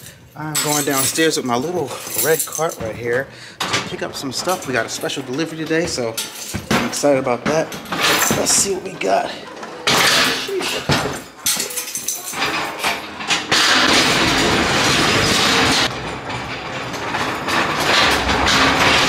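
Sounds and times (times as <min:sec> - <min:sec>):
hand cart rattling over wooden floor: 0:00.7 - 0:19.0.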